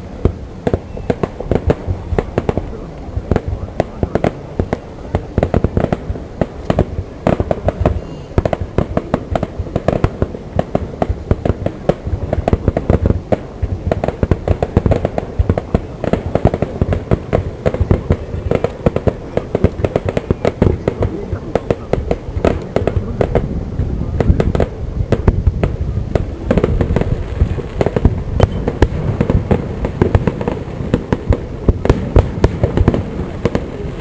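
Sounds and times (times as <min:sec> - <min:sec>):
fireworks bursts and crackles: 0:00.0 - 0:34.0.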